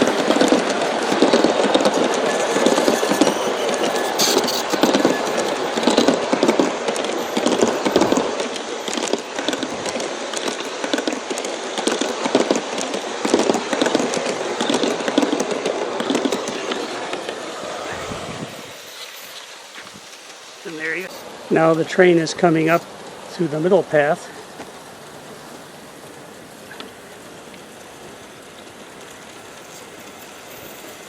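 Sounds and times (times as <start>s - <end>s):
model train wheels clattering: 0.0s - 18.0s, 23.6s - 31.0s.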